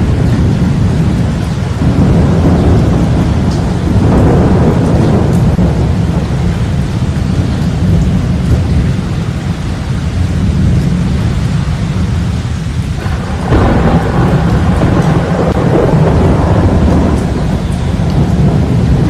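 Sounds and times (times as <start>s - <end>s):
rain hiss: 0.0s - 19.0s
thunder rumbling: 0.0s - 19.0s.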